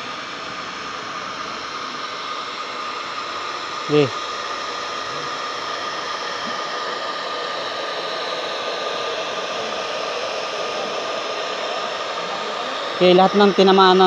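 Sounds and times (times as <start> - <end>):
hair dryer blowing air: 0.0 - 14.0.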